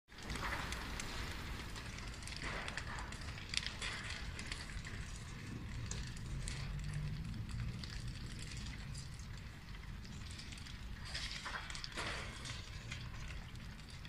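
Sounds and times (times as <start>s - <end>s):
fire popping and crackling: 0.1s - 14.0s
fire rumbling: 0.1s - 14.0s
loud fire snap: 0.1s - 14.0s.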